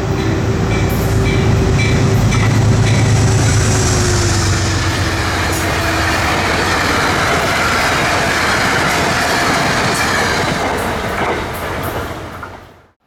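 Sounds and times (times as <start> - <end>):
train wheels clattering on rail: 0.0 - 13.0.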